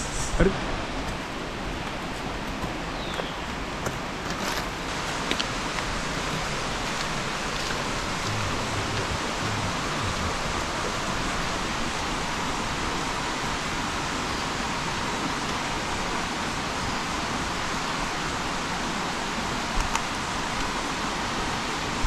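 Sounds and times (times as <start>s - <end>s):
stream flowing over rocks: 0.4s - 22.0s.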